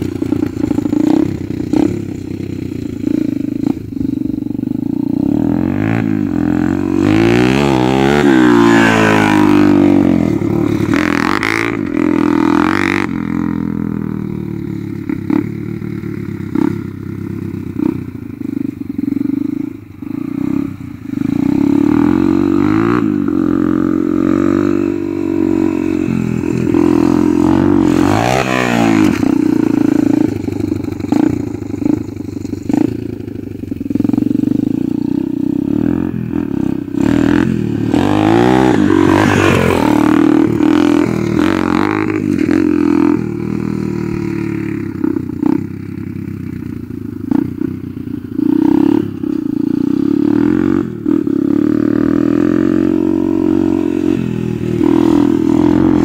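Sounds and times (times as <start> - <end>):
dirt bike engine revving: 0.0 - 46.2, 47.2 - 56.0.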